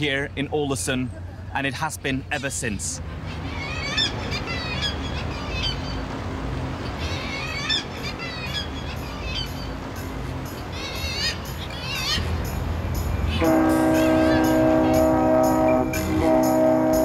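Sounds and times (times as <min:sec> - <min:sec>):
low harbour rumble: 0:00.0 - 0:17.0
seabirds calling: 0:02.3 - 0:17.0.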